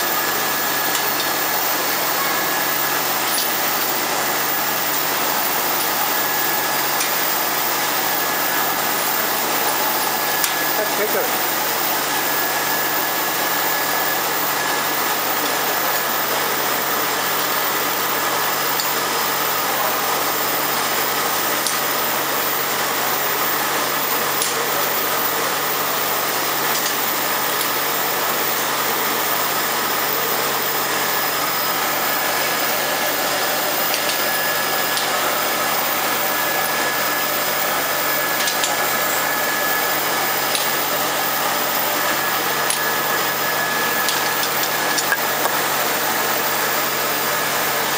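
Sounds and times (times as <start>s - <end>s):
machine whir: 0.0s - 47.9s
thin steady whine: 0.0s - 47.9s.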